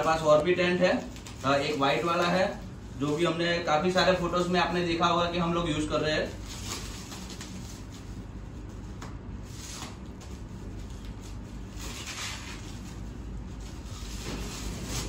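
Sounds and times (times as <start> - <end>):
plastic film crinkling: 0.0 - 5.4, 6.2 - 8.8, 9.4 - 15.0.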